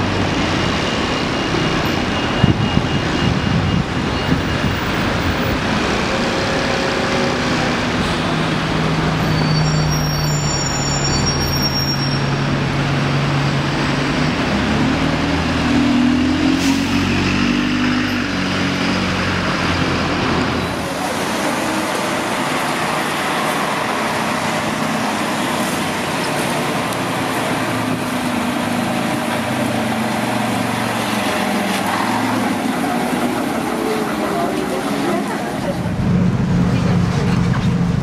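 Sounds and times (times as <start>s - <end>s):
bus diesel engine accelerating: 0.0s - 38.0s
wet road traffic noise: 0.0s - 38.0s.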